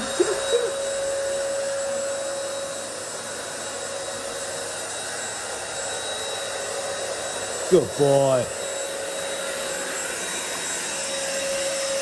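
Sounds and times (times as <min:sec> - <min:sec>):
vacuum cleaner motor whirring: 0:00.0 - 0:12.0.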